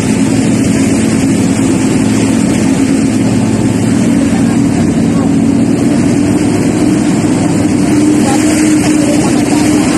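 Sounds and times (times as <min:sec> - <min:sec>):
truck engine running: 0:00.0 - 0:09.9.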